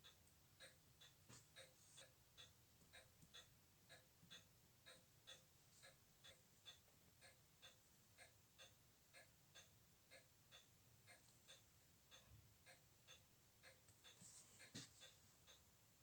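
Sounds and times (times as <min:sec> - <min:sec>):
faint watch ticking: 0:00.0 - 0:16.0.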